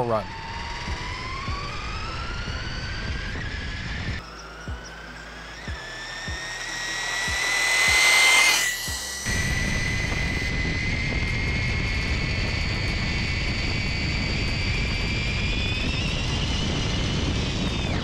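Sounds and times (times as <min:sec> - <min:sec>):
low rushing noise: 0:00.0 - 0:18.0
rc car electric motor whine: 0:00.0 - 0:18.0.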